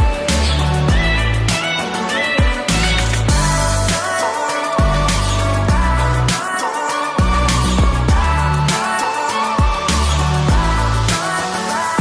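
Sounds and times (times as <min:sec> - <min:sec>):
music with beat and deep bass: 0:00.0 - 0:12.0.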